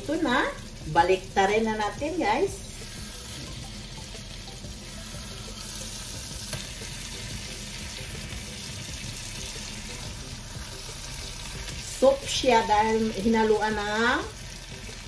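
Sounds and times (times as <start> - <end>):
meat patties sizzling in oil: 0.0 - 15.0.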